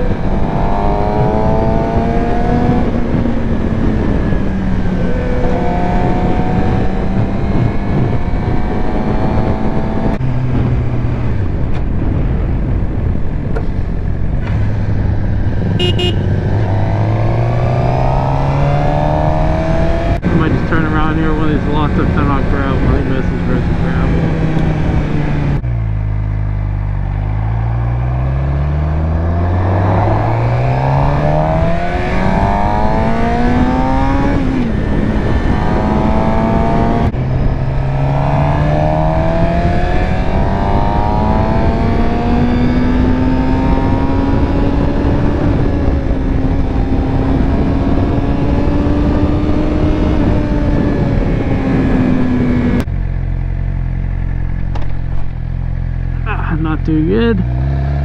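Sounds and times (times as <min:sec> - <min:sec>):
wind rushing: 0:00.0 - 0:25.9, 0:26.8 - 0:52.9
motorcycle engine revving: 0:00.0 - 0:58.0.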